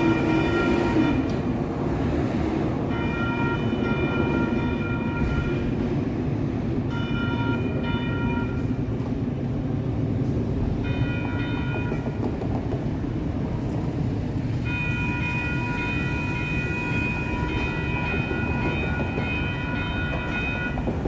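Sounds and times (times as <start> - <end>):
light rail train rumbling: 0.0 - 21.0.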